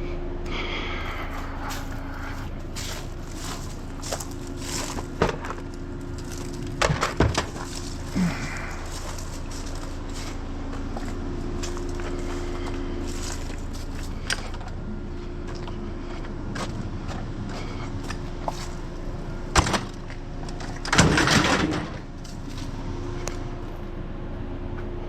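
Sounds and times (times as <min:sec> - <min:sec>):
rough engine clatter: 0:00.0 - 0:23.8
vehicle engine idling: 0:00.0 - 0:25.0.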